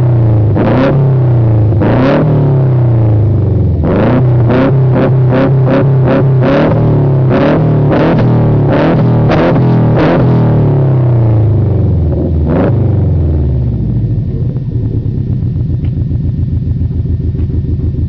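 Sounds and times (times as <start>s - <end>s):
car engine revving and idling: 0.0s - 18.0s.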